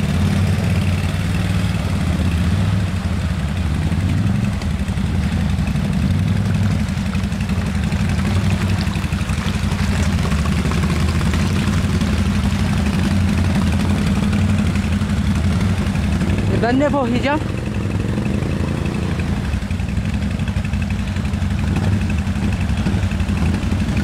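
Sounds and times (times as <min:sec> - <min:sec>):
atv engines running: 0:00.0 - 0:24.0.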